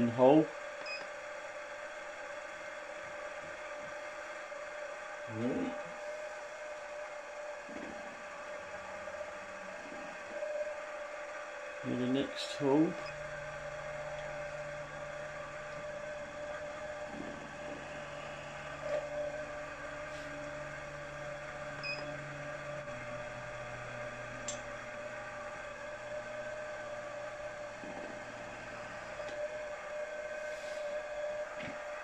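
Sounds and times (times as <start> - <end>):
milling machine humming: 0.0 - 32.0.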